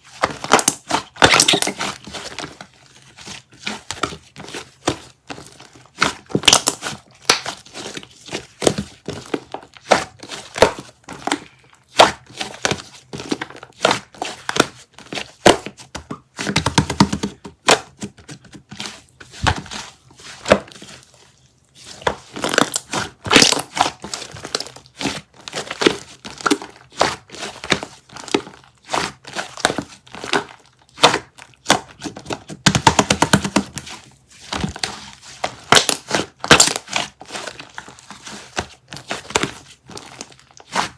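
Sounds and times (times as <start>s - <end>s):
slime squishing with sticky pops: 0.1s - 40.9s.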